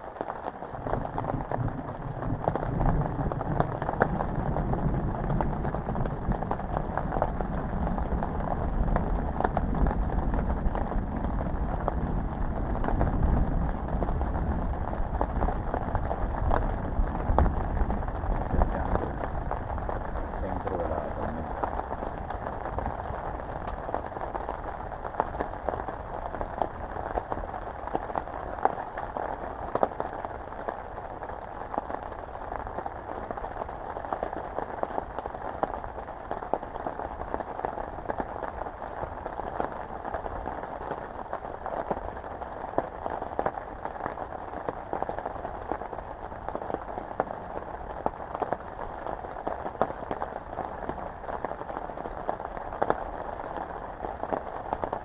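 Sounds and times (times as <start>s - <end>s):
raindrops ticking close by: 0.0s - 55.0s
steady rain falling: 0.0s - 55.0s.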